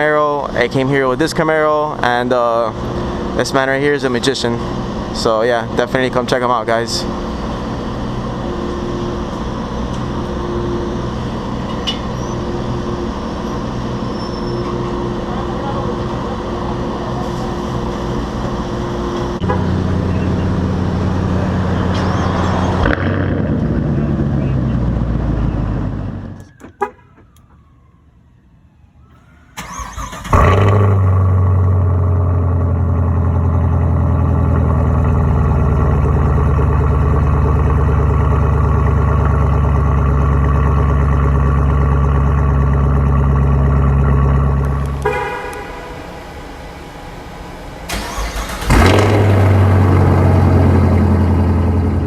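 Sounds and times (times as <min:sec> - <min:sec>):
car engine starting and idling: 0:00.0 - 0:52.0.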